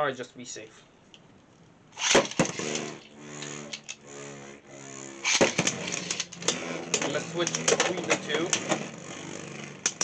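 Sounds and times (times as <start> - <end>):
spinning top whirring: 2.0 - 10.0.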